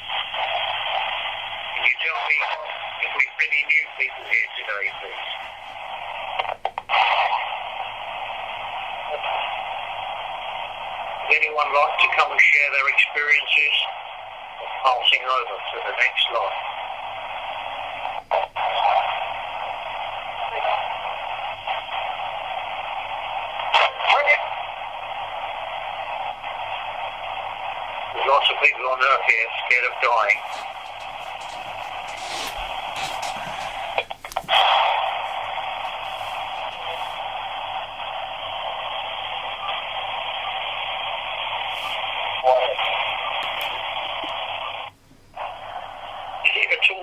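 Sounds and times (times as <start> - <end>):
faint radio snatches: 0.0 - 47.0
radio static hiss: 0.0 - 47.0.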